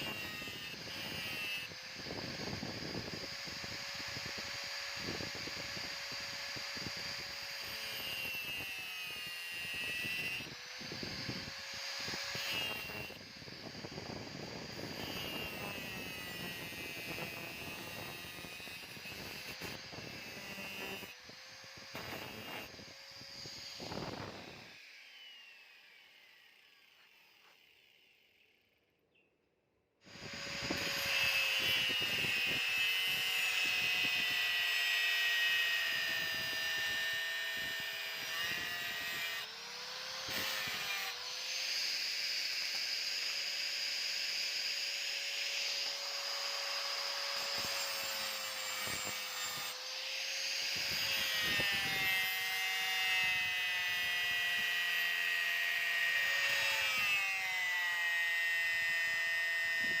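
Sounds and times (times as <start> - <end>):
power tool whining: 0.0 - 29.0, 30.0 - 60.0.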